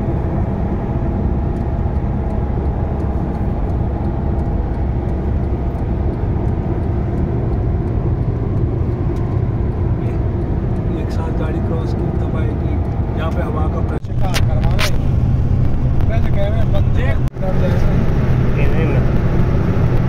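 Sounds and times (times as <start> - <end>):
car cabin road noise: 0.0 - 20.0.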